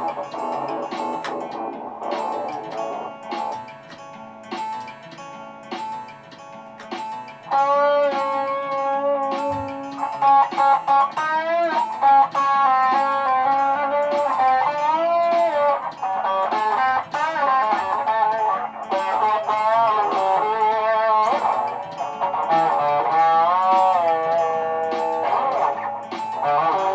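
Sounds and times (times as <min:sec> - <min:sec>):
electric guitar notes bending: 0:00.0 - 0:05.0, 0:05.7 - 0:26.9
plucked guitar pattern: 0:00.0 - 0:26.9.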